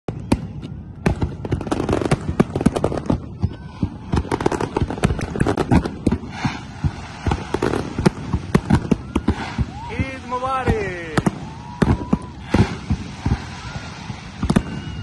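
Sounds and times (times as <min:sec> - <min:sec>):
fireworks bangs and crackles: 0:00.1 - 0:15.0.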